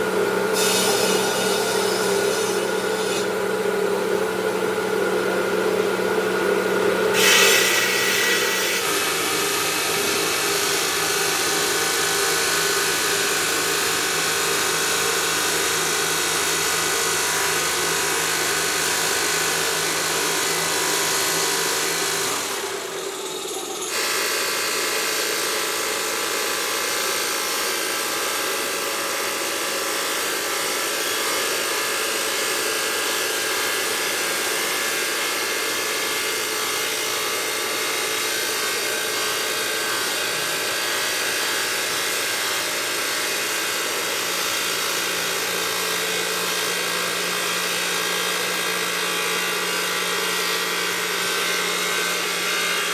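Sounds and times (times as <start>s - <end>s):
stone grinding machinery: 0.0s - 52.9s.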